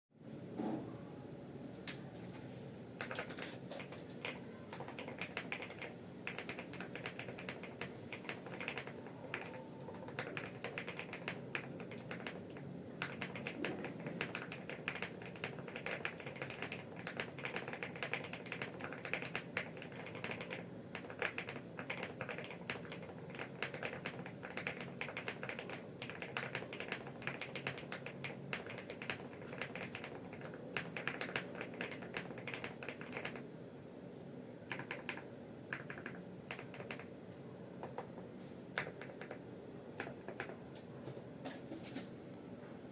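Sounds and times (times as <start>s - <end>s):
typing on a mechanical keyboard: 3.0s - 33.5s, 34.6s - 37.1s, 37.8s - 40.7s.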